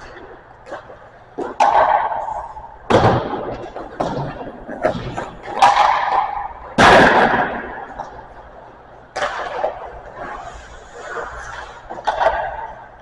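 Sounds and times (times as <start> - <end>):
hockey pucks cracking on hard surfaces: 0.0 - 13.0.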